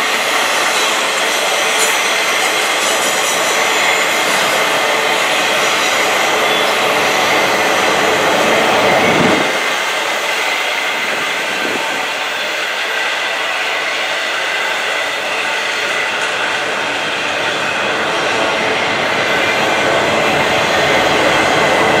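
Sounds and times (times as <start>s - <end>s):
freight train rumbling on rails: 0.0s - 22.0s.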